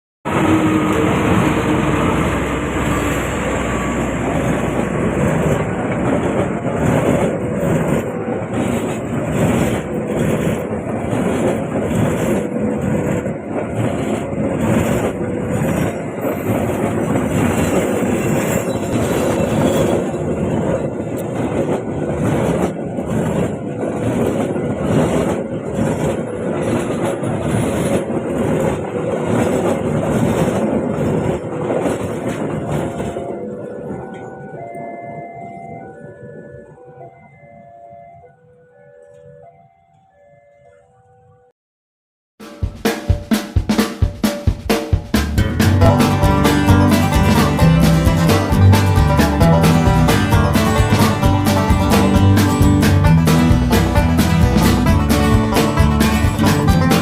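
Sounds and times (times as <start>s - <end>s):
train wheels clattering over rails: 0.3s - 34.4s, 42.6s - 57.0s.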